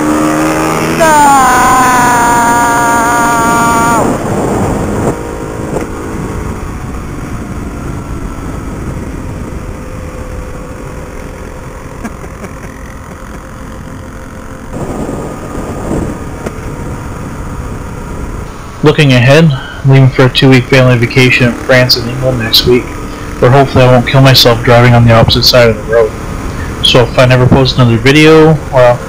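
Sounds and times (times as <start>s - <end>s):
motorcycle engine running: 0.0s - 29.0s
wind rumbling on microphone: 0.8s - 29.0s.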